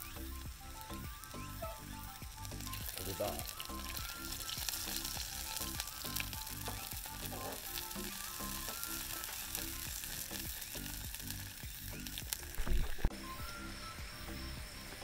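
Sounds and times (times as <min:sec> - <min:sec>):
background music with low beat: 0:00.0 - 0:15.0
meat sizzling in frying pan: 0:00.0 - 0:15.0.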